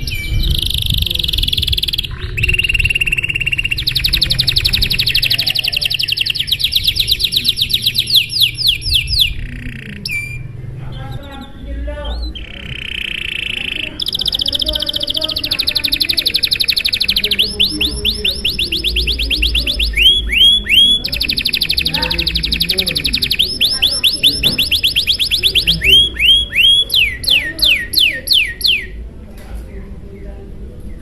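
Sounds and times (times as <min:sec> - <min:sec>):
canary singing trills: 0:00.0 - 0:29.1.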